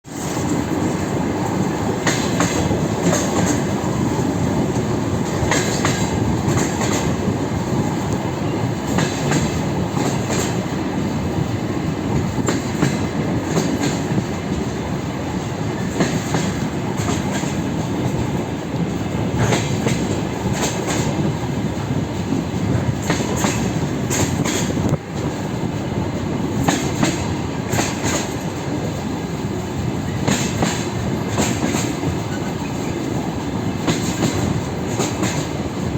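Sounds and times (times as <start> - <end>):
train running rumble: 0.0 - 35.9
train wheels clattering over rail joints: 0.0 - 35.9.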